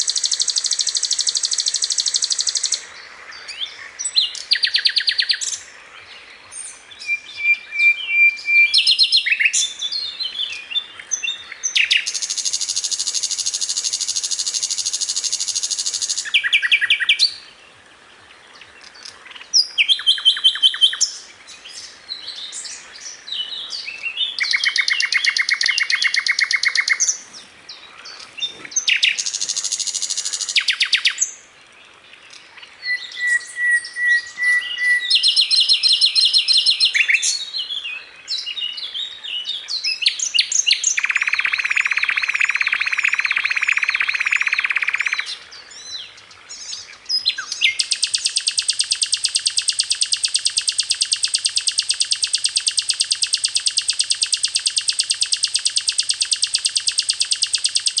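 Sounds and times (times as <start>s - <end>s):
bird chirps and twitters: 0.0s - 2.8s, 3.4s - 5.6s, 6.5s - 17.4s, 18.8s - 31.3s, 32.3s - 37.7s, 39.7s - 58.0s.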